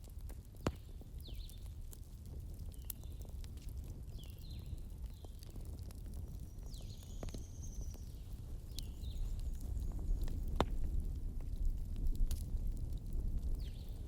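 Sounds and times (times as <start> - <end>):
campfire crackling: 0.0 - 14.0
fire pop: 0.0 - 14.0.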